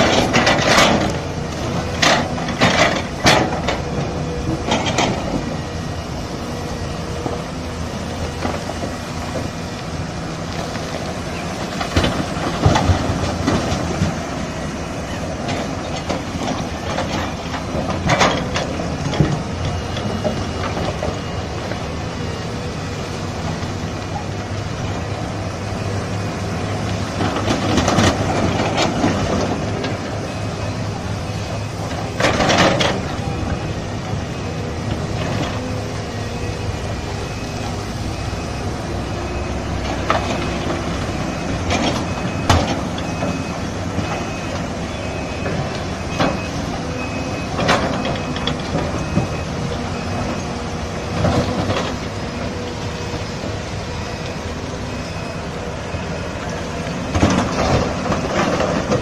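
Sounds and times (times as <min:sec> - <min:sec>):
construction machinery engine drone: 0:00.0 - 0:59.0.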